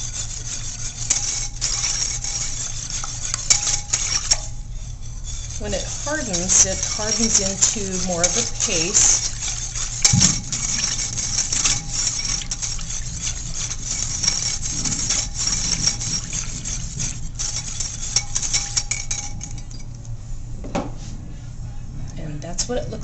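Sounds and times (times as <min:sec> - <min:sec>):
wire whisk clinking against pot: 0:00.0 - 0:20.0
steady low hum: 0:00.0 - 0:23.0.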